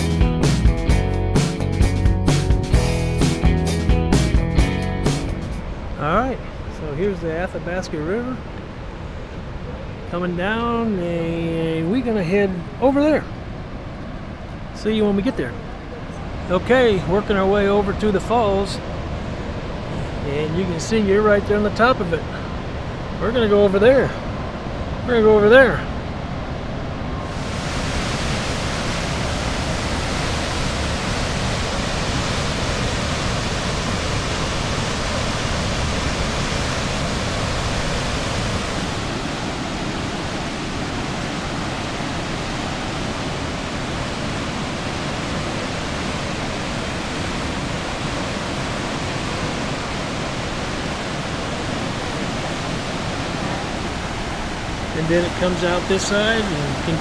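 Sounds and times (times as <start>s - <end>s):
water rushing over falls: 5.6s - 57.0s.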